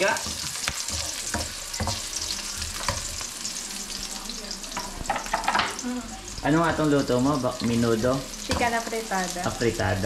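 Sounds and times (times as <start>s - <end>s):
garlic and onions sizzling: 0.0s - 10.0s.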